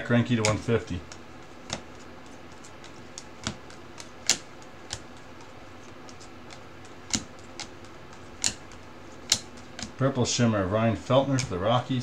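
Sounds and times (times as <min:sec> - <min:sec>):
cards clicking and snapping: 0:00.3 - 0:10.0.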